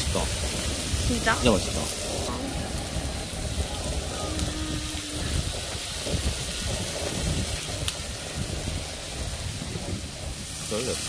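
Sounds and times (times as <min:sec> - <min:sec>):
food sizzling in grill pan: 0:00.0 - 0:11.0
wind buffeting microphone: 0:00.0 - 0:11.0.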